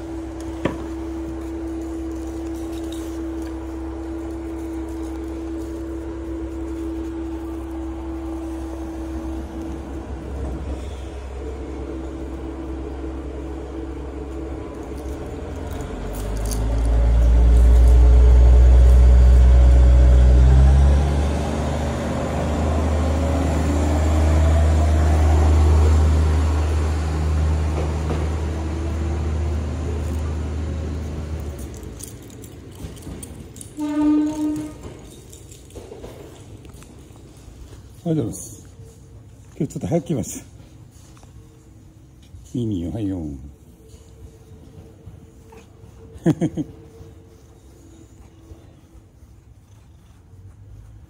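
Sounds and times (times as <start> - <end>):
diesel railcar engine rumbling: 0.0 - 51.0.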